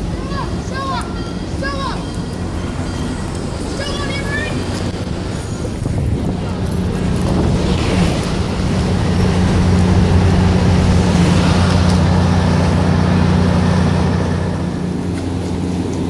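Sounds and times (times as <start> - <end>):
train coaches rolling past: 0.0 - 16.0.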